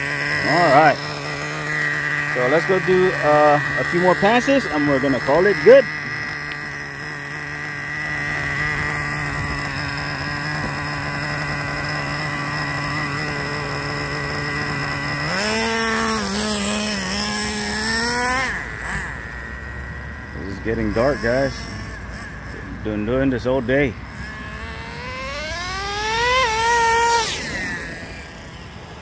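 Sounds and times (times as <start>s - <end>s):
nitro engine running and revving: 0.0s - 29.0s.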